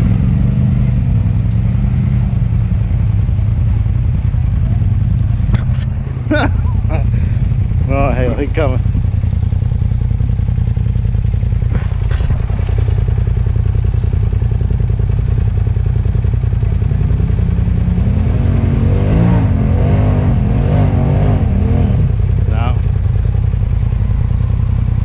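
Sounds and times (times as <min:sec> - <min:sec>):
engine low rumble and revving: 0:00.0 - 0:25.0.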